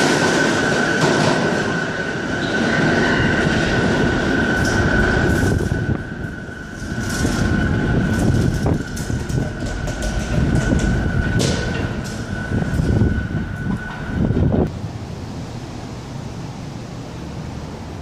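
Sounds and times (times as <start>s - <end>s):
rail squeals and clatters: 0.0s - 14.7s
high-pitched whine: 0.0s - 18.0s
subway train rumbling: 0.0s - 18.0s.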